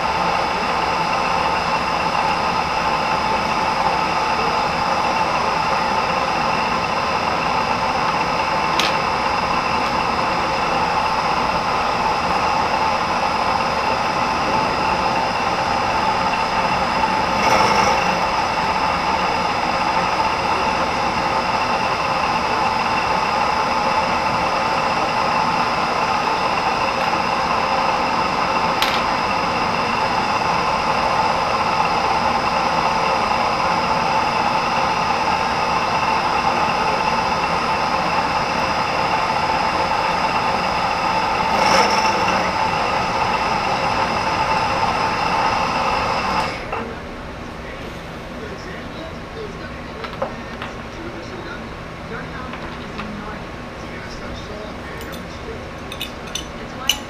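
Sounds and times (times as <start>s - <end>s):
milling machine whine: 0.0s - 57.0s.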